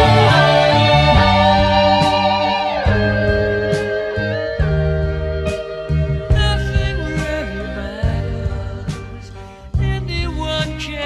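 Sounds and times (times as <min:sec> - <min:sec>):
pop-rock song: 0:00.0 - 0:11.0.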